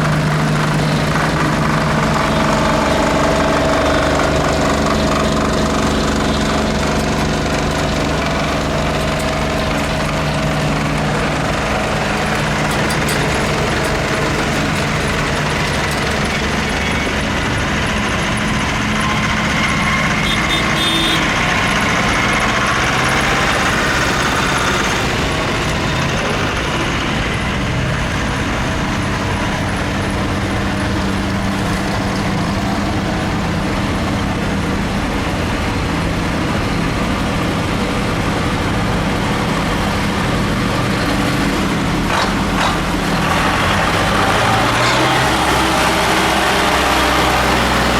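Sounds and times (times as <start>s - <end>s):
high engine whine: 0.0s - 47.9s
tractor engine running: 0.0s - 47.9s.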